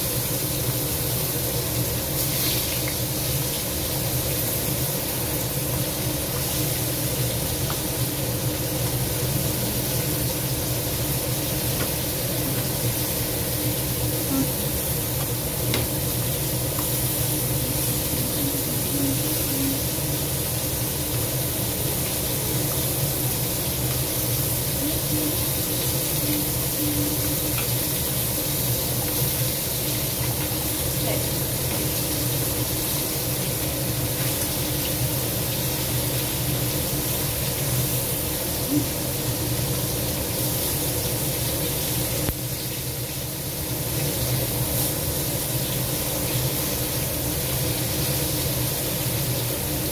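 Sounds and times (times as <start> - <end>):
food sizzling in a wok: 0.0 - 49.9.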